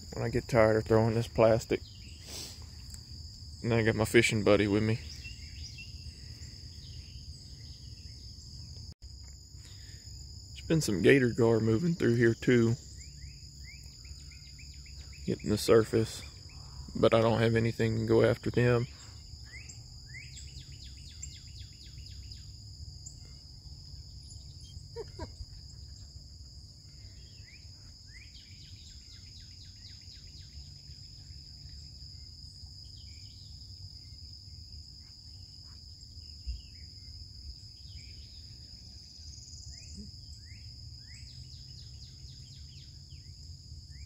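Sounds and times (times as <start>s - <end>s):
insects trilling: 0.0s - 44.0s
bird chirping: 1.7s - 8.9s, 10.9s - 44.0s.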